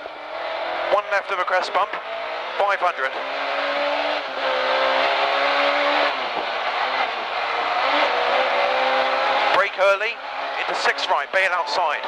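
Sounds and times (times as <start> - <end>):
car engine under full throttle: 0.0 - 12.0.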